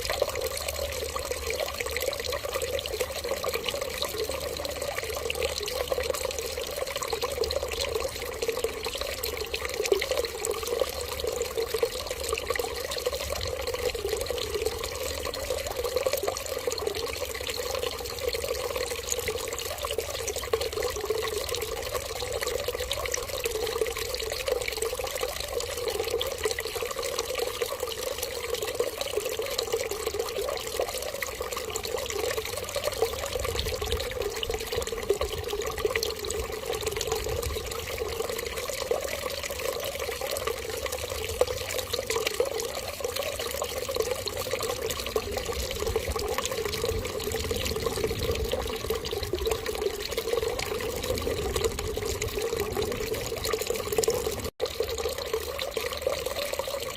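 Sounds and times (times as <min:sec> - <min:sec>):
water running steadily: 0:00.0 - 0:56.9.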